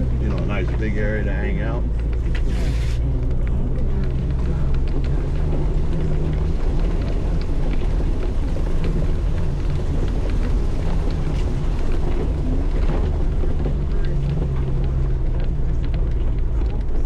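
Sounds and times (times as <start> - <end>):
vehicle engine running at low speed: 0.0 - 17.0.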